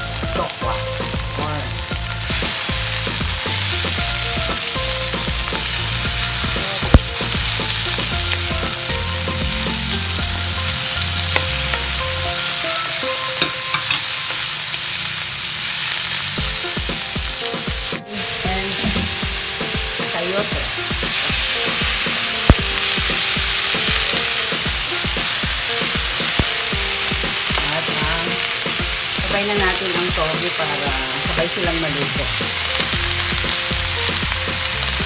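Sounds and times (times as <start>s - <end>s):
oil sizzling in a pan: 0.0s - 35.0s.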